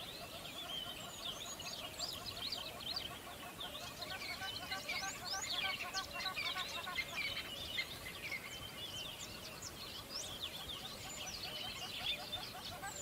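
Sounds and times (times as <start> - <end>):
lower repeated bird calls: 0.0 - 13.0
small birds chirping: 0.0 - 13.0.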